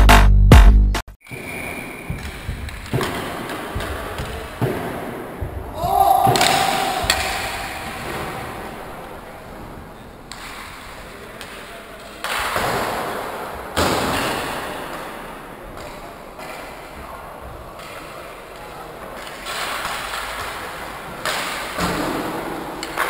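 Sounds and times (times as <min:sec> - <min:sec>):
puck banging rink boards: 0:01.4 - 0:17.0, 0:19.1 - 0:23.0
hockey sticks knocking puck: 0:02.0 - 0:08.9, 0:10.2 - 0:17.0, 0:17.8 - 0:23.0.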